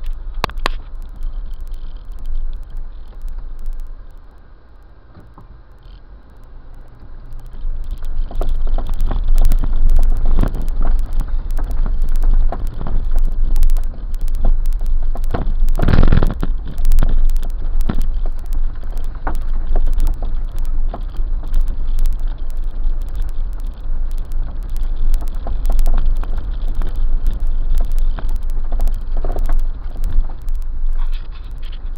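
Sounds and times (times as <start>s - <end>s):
engine and tyres rumbling: 0.0s - 31.9s.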